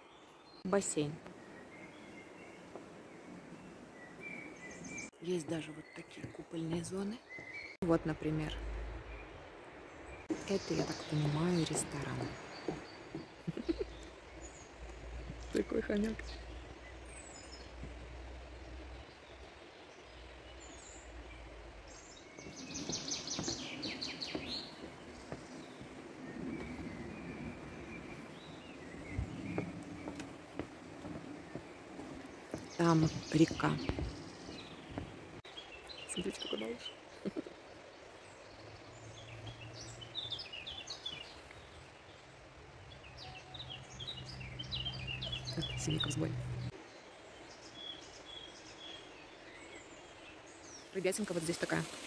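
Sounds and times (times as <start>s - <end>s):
songbird singing: 0.0s - 52.0s
steady outdoor hiss: 0.0s - 52.0s.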